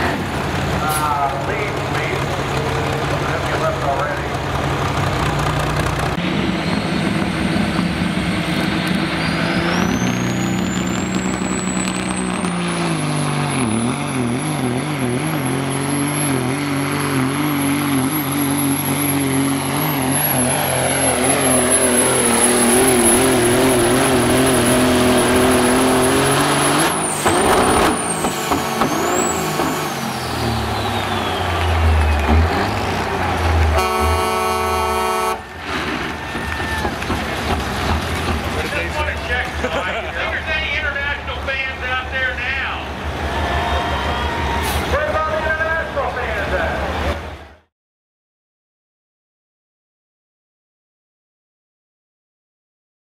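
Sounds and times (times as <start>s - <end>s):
diesel truck engine at full throttle: 0.0s - 47.7s.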